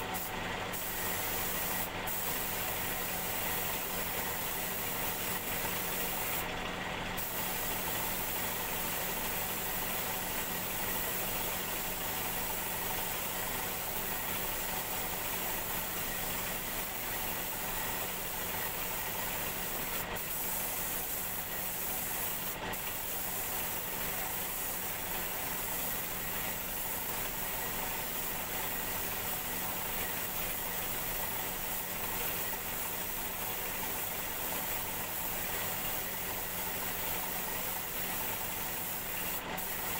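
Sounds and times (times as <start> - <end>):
paint spray gun hissing: 0.0 - 6.5, 7.1 - 39.9.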